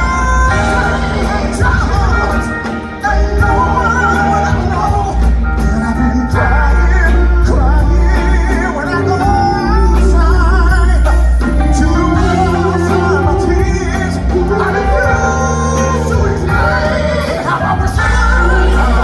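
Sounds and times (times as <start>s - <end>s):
soul band with steady bass: 0.0s - 19.0s.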